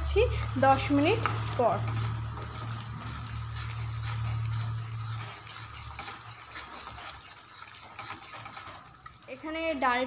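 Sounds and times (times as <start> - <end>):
metal spatula scraping pot: 0.1 - 9.8.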